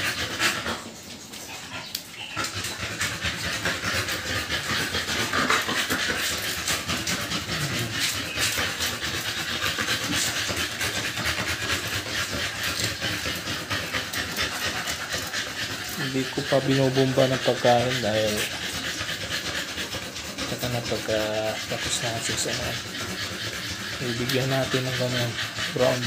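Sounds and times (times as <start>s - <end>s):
puppies panting and snuffling: 0.0s - 26.0s.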